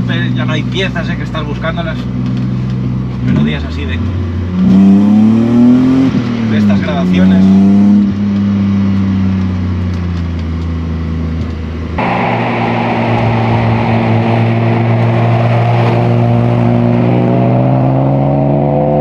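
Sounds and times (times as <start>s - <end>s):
car engine accelerating: 1.9s - 19.0s.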